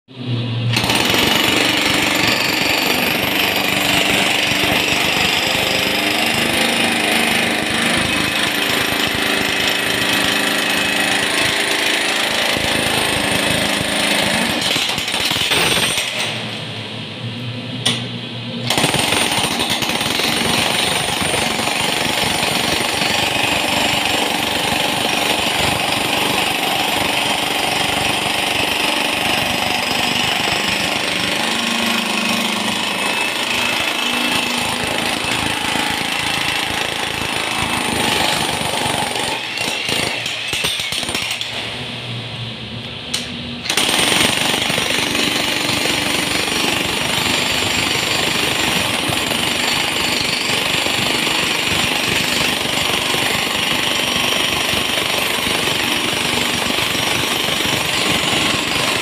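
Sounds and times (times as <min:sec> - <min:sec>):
jackhammer breaking concrete: 0:00.7 - 0:16.6, 0:18.7 - 0:41.7, 0:43.6 - 0:59.0.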